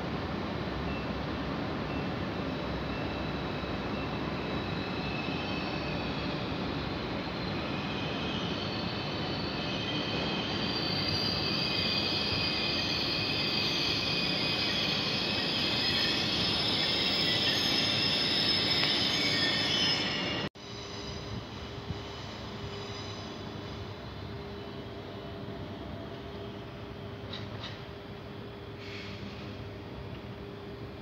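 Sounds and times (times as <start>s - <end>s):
train rumbling on track: 0.0s - 31.0s
high-pitched train squeal: 1.8s - 29.8s.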